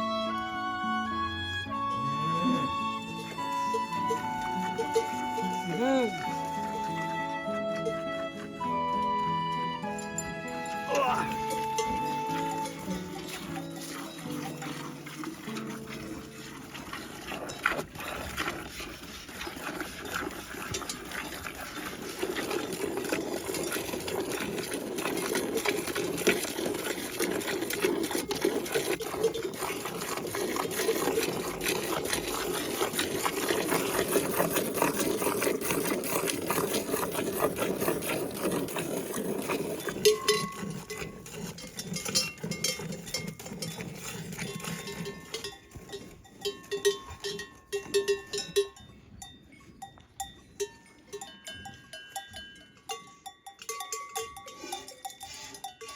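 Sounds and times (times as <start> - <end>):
livestock bells clanking: 1.2 - 18.6, 20.3 - 21.6, 27.2 - 55.9.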